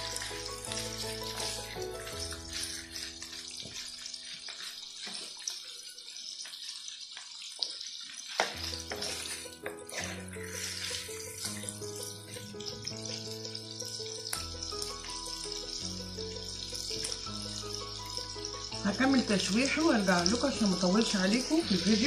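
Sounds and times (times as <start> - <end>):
background music: 0.0 - 4.7, 8.5 - 22.0
sausages sizzling in a frying pan: 0.0 - 22.0.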